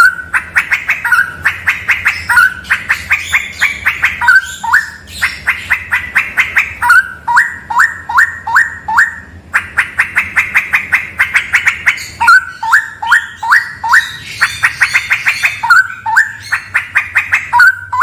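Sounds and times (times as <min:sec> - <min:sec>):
bulbul singing: 0:00.0 - 0:18.0.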